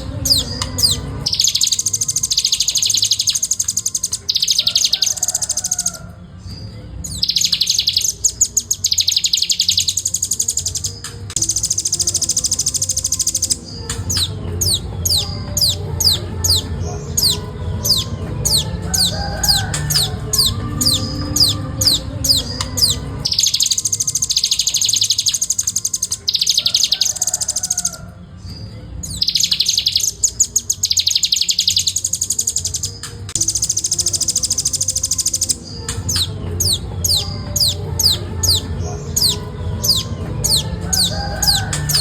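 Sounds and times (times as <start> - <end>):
nuthatch trilling: 0.0 - 42.0.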